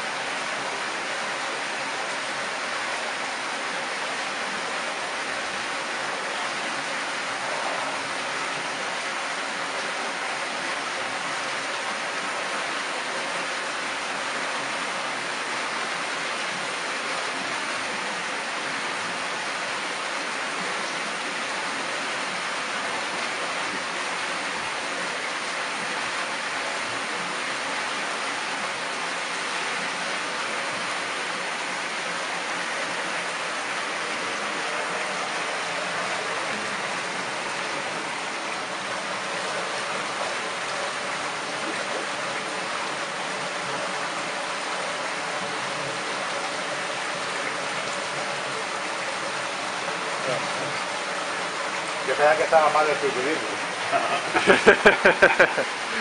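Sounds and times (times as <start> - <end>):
rush of flowing water: 0.0 - 56.0.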